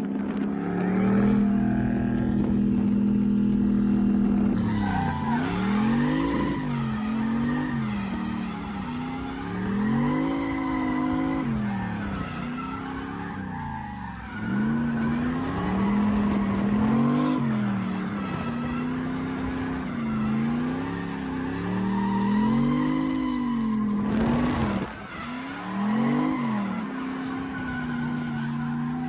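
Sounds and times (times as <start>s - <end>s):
car engine revving: 0.0s - 29.0s
tyres skidding: 0.0s - 29.0s.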